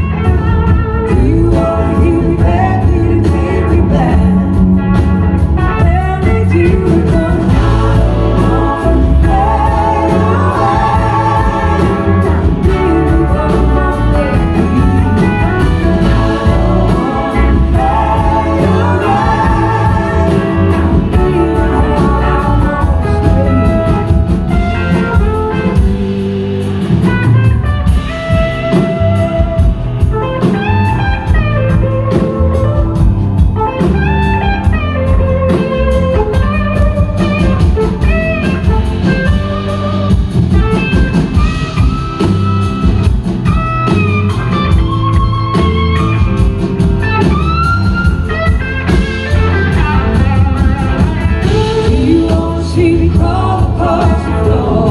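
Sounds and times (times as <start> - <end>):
bass guitar: 0.0 - 54.9
drums: 0.0 - 54.9
lead electric guitar bending notes: 0.0 - 54.9
rhythm electric guitar: 0.0 - 54.9.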